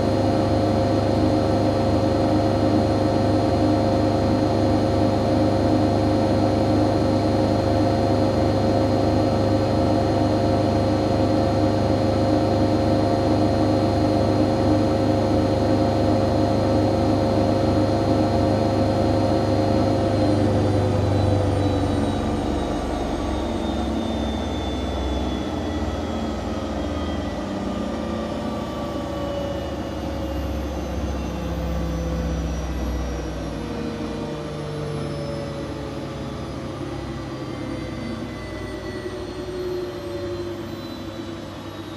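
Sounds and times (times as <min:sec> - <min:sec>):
washing machine spinning: 0:00.0 - 0:40.3.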